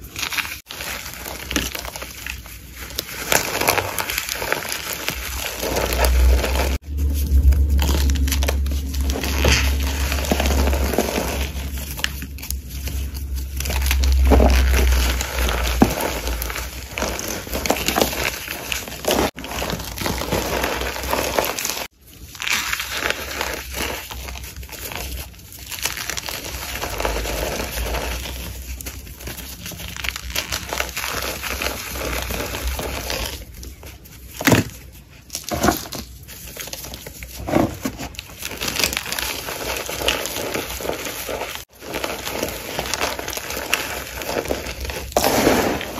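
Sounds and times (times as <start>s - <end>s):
chalk powder crunching: 0.0s - 45.9s.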